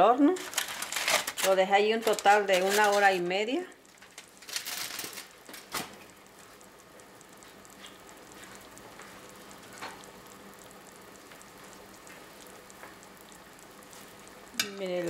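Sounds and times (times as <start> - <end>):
pan juices sizzling and crackling: 0.1 - 15.0.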